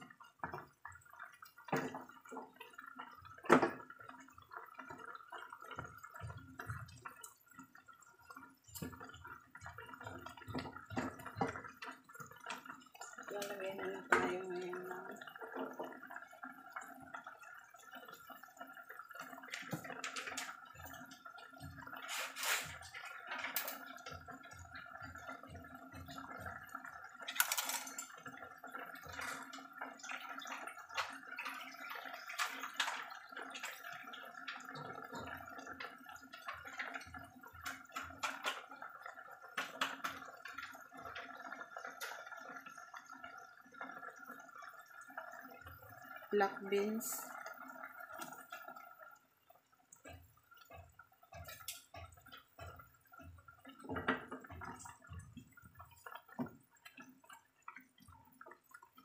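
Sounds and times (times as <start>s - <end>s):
stew bubbling and popping: 0.0s - 59.0s.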